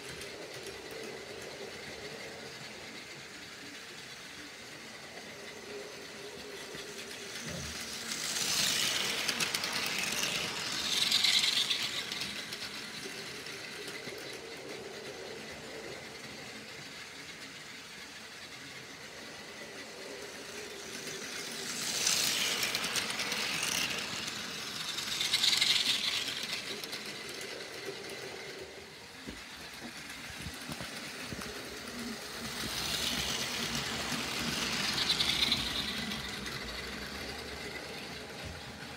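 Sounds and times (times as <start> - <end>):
toy train motor whirring: 0.0 - 38.9
wheels rattling over track joints: 0.0 - 38.9.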